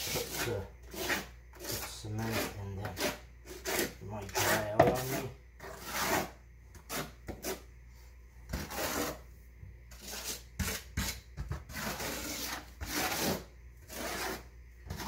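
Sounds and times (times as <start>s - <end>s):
trowel scraping mortar on plywood: 0.0s - 7.7s, 8.5s - 9.2s, 9.9s - 15.0s.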